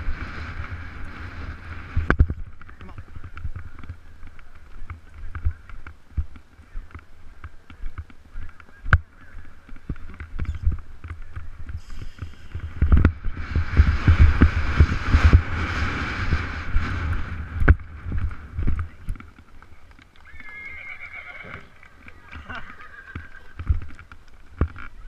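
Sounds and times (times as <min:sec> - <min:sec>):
horse hoofbeats galloping: 0:00.0 - 0:25.0
wind buffeting microphone: 0:00.0 - 0:25.0.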